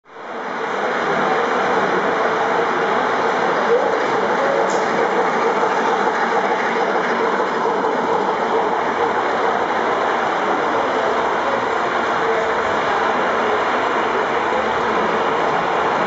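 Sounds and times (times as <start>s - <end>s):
model train wheels rolling: 0.2s - 16.0s.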